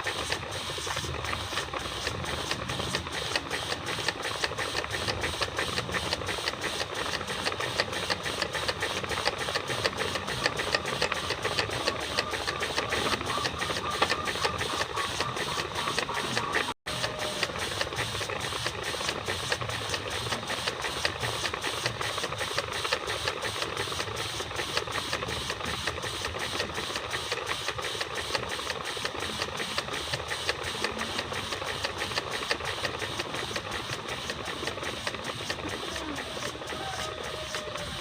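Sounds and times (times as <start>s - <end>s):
small steam engine clattering: 0.0s - 38.0s.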